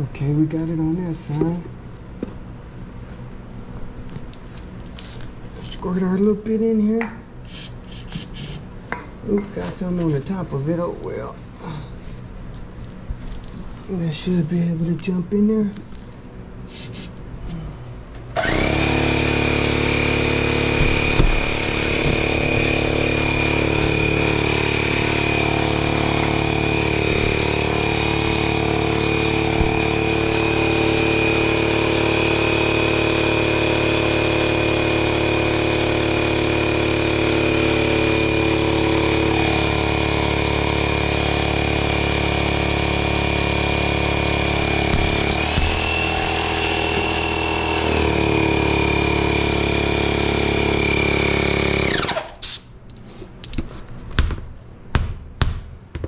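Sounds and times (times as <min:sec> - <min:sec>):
air compressor motor running: 0:07.4 - 0:53.4.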